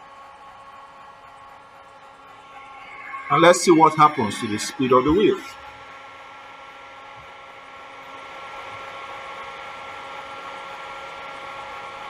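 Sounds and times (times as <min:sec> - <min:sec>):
machine humming and hissing: 0:00.0 - 0:12.0.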